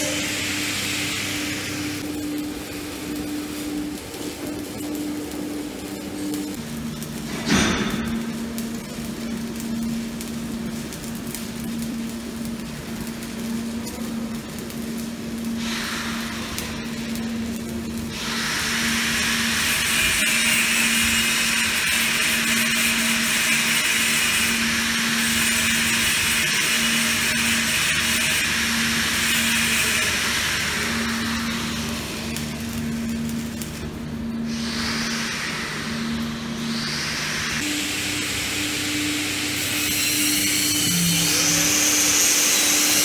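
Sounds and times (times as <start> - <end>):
welding arc crackling and hissing: 0.0 - 43.0.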